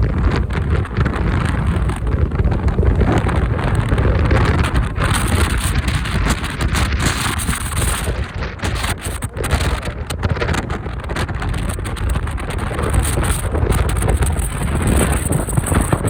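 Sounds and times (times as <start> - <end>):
road and vehicle noise: 0.0 - 16.0
wind buffeting microphone: 0.0 - 16.0.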